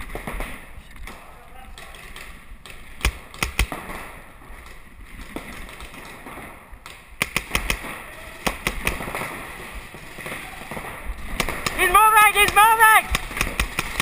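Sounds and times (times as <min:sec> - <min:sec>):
paintball markers firing: 0:00.1 - 0:09.6, 0:10.2 - 0:14.0.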